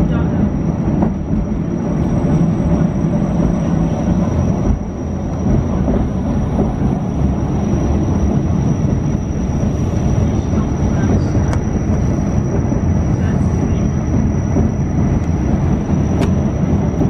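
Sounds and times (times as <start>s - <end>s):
thin high whine: 0.0s - 17.0s
train wheels rumbling: 0.0s - 17.0s.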